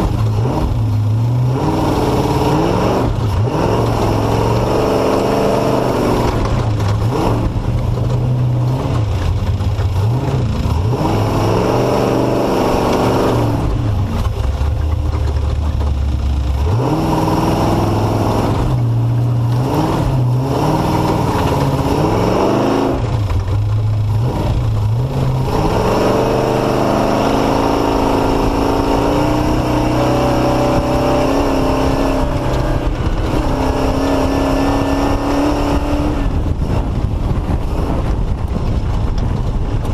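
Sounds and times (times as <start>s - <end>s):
off-road engine revving: 0.0s - 39.9s.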